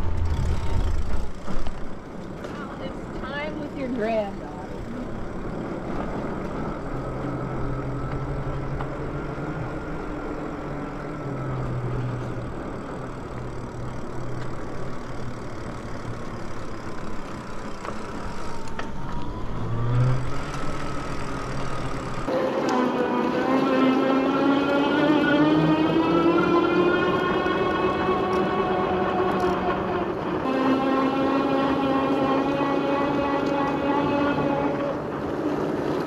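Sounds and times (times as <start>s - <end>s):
wind and tyre rush: 0.0s - 36.0s
electric motor whine: 4.6s - 35.1s.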